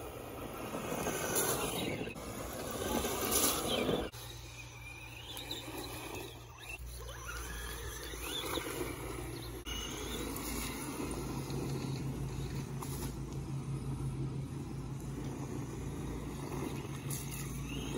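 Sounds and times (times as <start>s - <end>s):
toy car electric motor whining: 0.5s - 13.2s, 15.2s - 17.9s.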